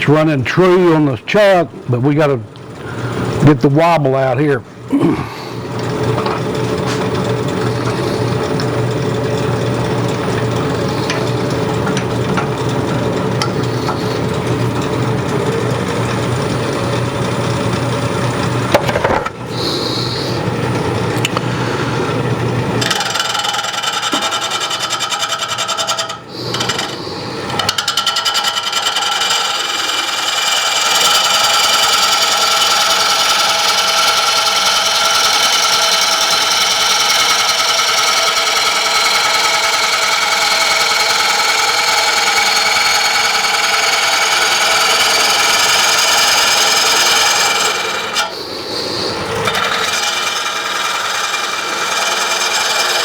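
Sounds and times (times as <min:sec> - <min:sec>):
lathe whine: 0:00.0 - 0:53.0
lathe tool cutting wood: 0:05.4 - 0:53.0.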